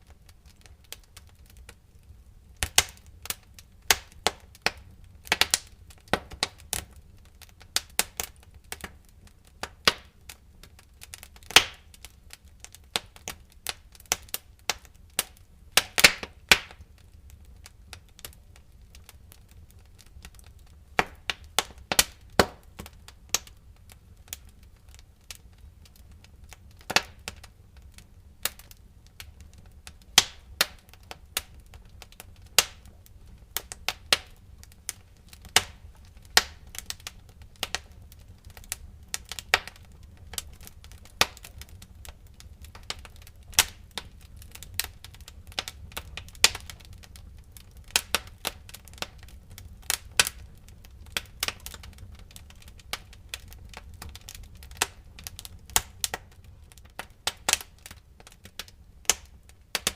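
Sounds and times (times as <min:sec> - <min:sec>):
low steady fire rumble: 0:00.0 - 0:59.9
wood fire crackling: 0:00.0 - 0:59.9.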